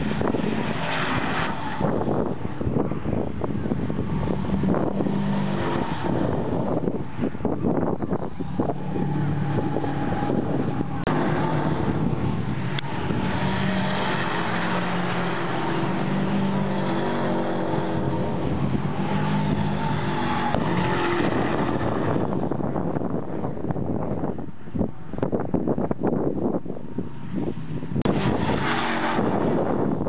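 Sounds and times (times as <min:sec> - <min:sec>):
race car engines passing: 0:00.0 - 0:25.3, 0:26.2 - 0:30.0.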